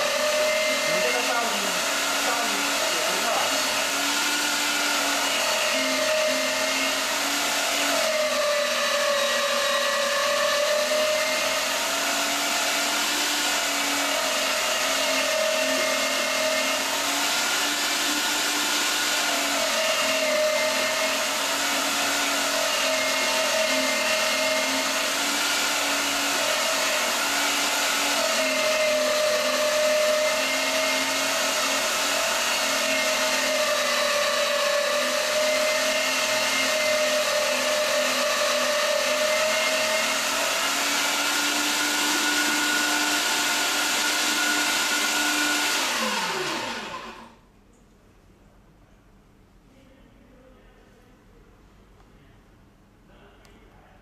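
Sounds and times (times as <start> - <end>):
electric meat grinder running: 0.0 - 47.4.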